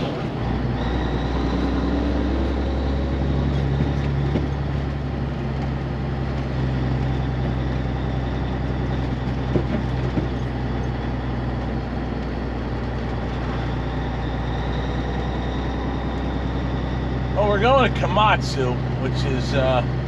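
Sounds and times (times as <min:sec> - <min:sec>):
road noise: 0:00.0 - 0:20.0
truck diesel engine running: 0:00.0 - 0:20.0.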